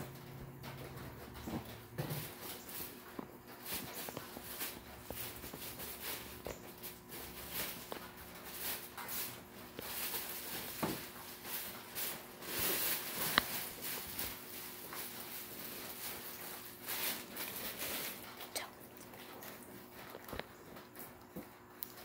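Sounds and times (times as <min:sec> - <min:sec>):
plastic panels rustling and scraping: 0:00.0 - 0:18.4.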